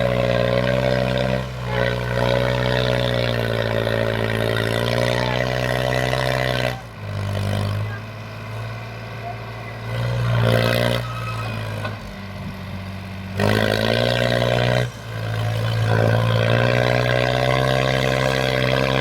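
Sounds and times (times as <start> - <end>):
tractor diesel engine pulling hard: 0.0 - 19.0.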